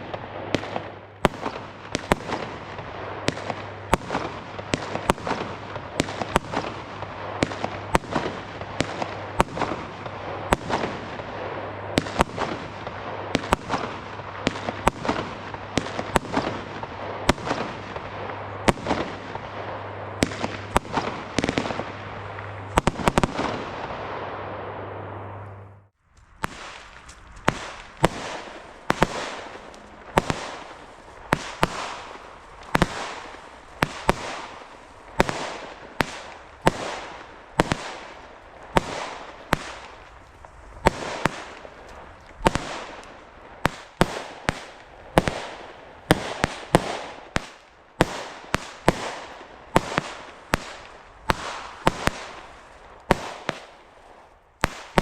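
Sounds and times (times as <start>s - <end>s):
firework shots banging: 0.0s - 25.6s, 26.2s - 55.0s
crackling hiss: 0.0s - 55.0s.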